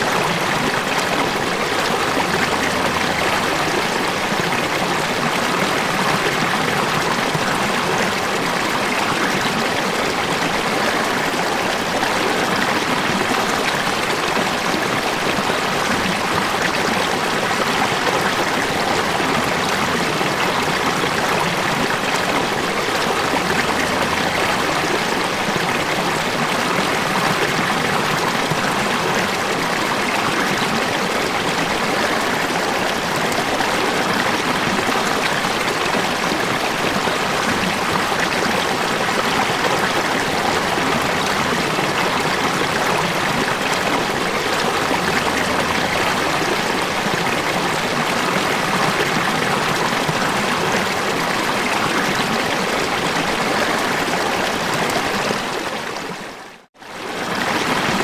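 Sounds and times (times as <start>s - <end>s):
falling water rushing: 0.0s - 58.0s.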